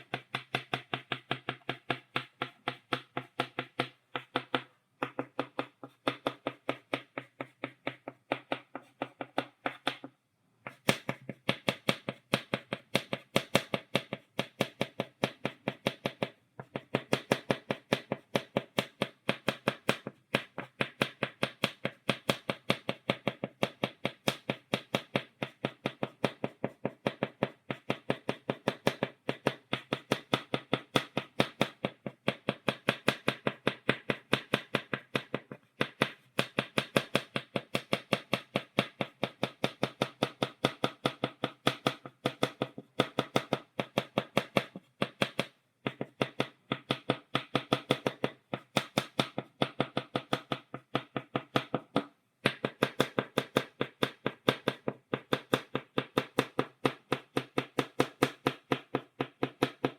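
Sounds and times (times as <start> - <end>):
chalk tapping on a blackboard: 0.0 - 59.9.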